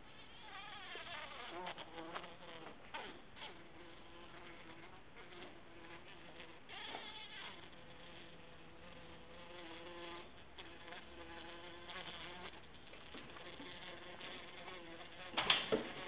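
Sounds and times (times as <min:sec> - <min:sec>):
bumblebee buzzing: 0:00.2 - 0:16.0.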